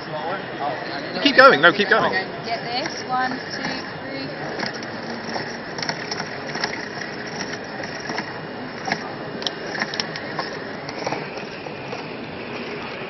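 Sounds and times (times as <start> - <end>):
pedal machine whirring: 0.0 - 13.0.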